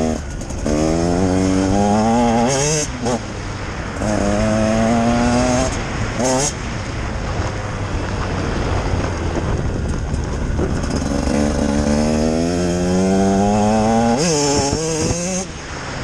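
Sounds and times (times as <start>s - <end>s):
two-stroke engine accelerating: 0.0s - 6.6s, 8.1s - 16.0s.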